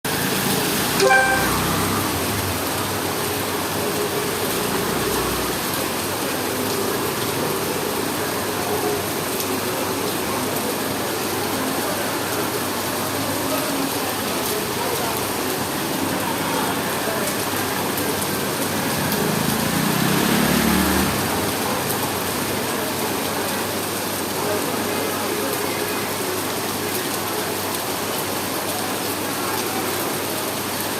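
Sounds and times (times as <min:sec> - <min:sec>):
heavy rain pouring: 0:00.1 - 0:30.9.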